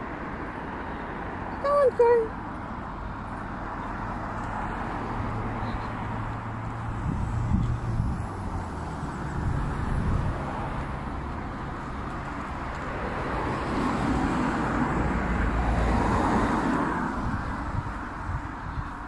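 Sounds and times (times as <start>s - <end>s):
car passing: 0.0s - 19.0s.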